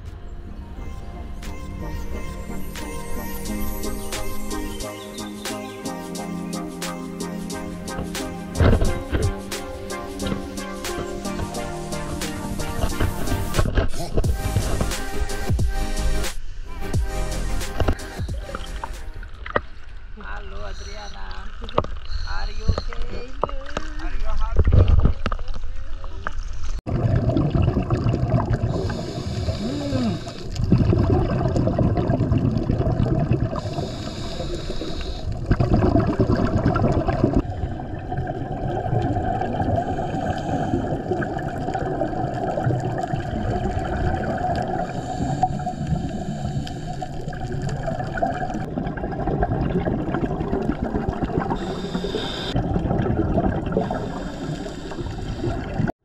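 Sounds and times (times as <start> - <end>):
bubbly hiss: 2.1 - 19.2, 26.9 - 55.9
muffled underwater rushing water: 7.5 - 15.2, 17.7 - 56.0.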